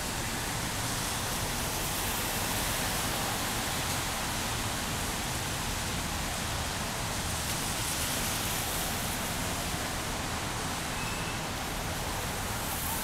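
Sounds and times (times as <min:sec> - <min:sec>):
rain hiss: 0:00.0 - 0:13.0
wet street noise: 0:00.0 - 0:13.0.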